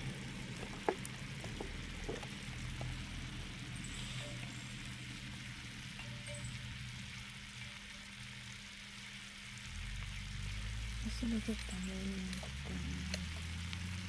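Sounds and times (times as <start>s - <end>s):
food sizzling on a grill: 0.0s - 14.0s
low steady hum: 0.0s - 14.0s.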